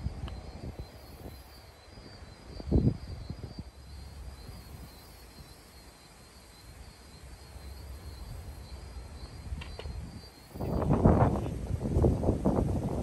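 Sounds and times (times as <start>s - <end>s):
insect trill: 0.0s - 13.0s
wind rumble on microphone: 0.0s - 13.0s.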